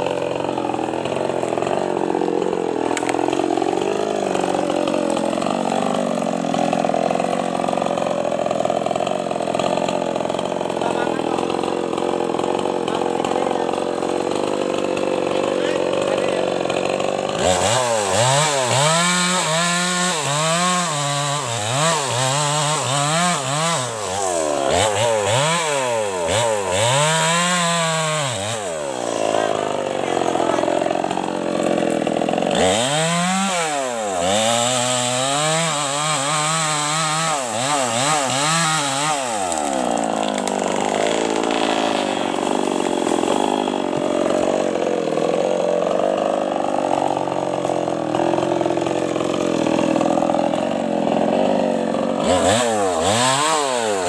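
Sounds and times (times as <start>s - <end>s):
chainsaw cutting tree trunk: 0.0s - 54.0s
chainsaw revving: 0.0s - 54.0s.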